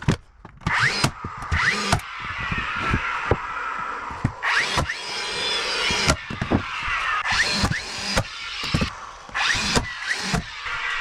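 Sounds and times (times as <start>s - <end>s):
handheld power tool running: 0.6s - 11.0s.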